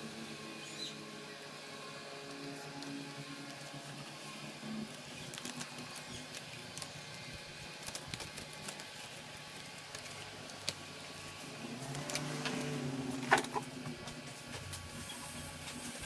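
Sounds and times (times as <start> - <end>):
low hum: 0.0 - 15.7.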